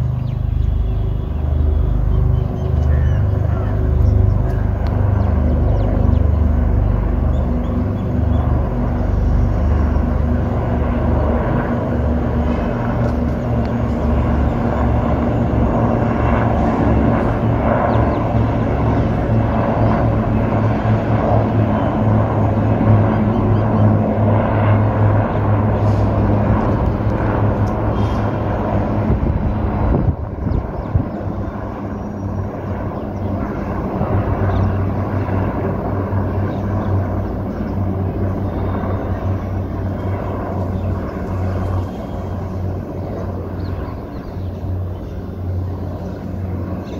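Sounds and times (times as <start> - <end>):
helicopters flying overhead: 0.0 - 46.9.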